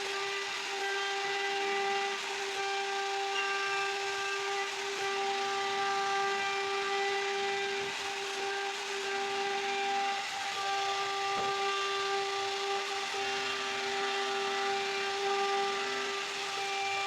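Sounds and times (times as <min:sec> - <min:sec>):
cutter hissing in wood: 0:00.0 - 0:17.0
router spindle whine: 0:00.0 - 0:17.0.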